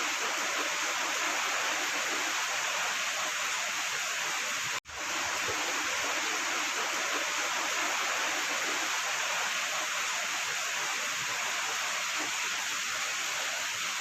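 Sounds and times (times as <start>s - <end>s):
steady rain pouring: 0.0s - 14.0s.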